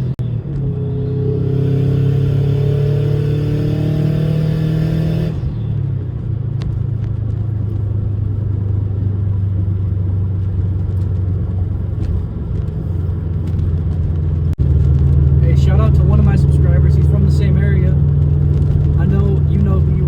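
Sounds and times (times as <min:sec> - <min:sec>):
car engine revving and droning: 0:00.0 - 0:20.0.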